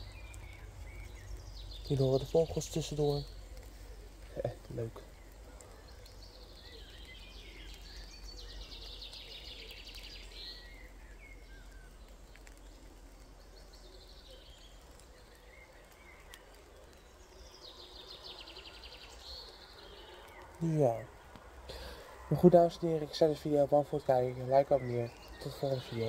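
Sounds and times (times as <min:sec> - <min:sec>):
light rain hiss: 0:00.0 - 0:26.0
songbirds trilling: 0:00.0 - 0:26.0.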